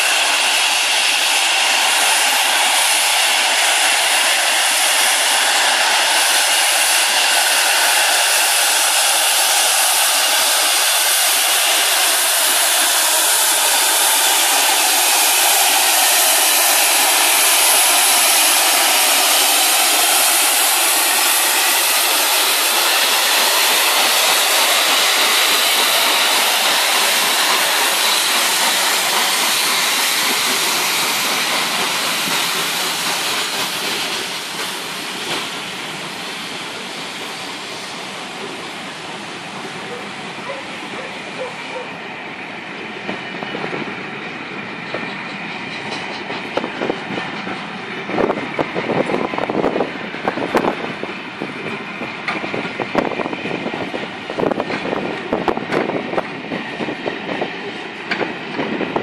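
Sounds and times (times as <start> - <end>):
steam locomotive hissing roar: 0.0 - 59.0.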